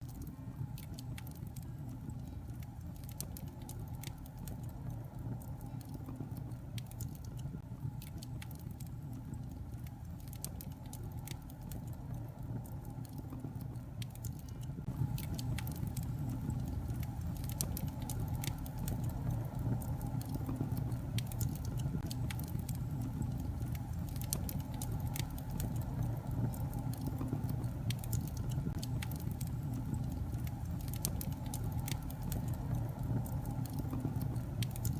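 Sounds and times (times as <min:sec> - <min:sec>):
fire crackling and popping: 0:00.0 - 0:34.9
fire flame rumble: 0:00.1 - 0:34.9.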